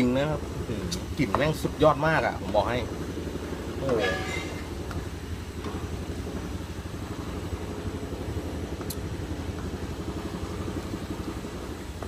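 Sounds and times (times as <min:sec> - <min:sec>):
gas burner rumble: 0:00.0 - 0:12.0.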